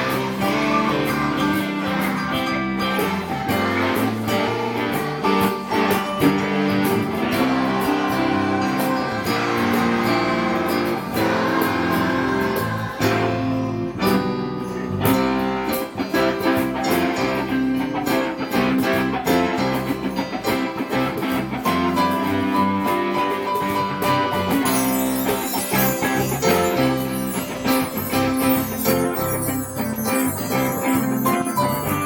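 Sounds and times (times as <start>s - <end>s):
guitars strumming: 0.0s - 32.0s.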